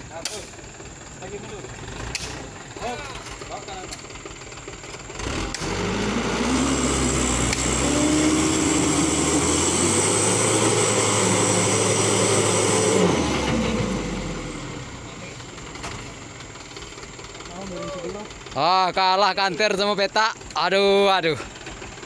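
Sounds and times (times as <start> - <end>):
diesel truck engine revving: 0.0 - 22.0.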